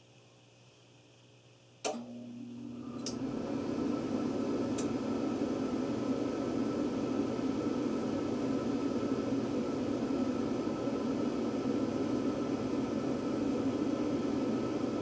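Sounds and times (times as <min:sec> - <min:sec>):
furnace rushing hum: 0:00.0 - 0:15.0.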